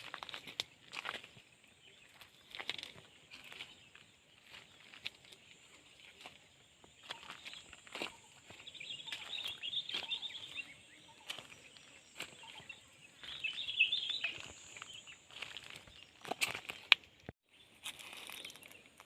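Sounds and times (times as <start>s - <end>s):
bird chatter: 0.0s - 19.0s.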